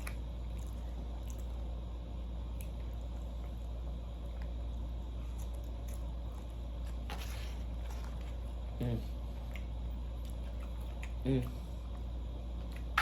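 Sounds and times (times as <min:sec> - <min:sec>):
person chewing food: 0:00.0 - 0:13.0
steady low hum: 0:00.0 - 0:13.0.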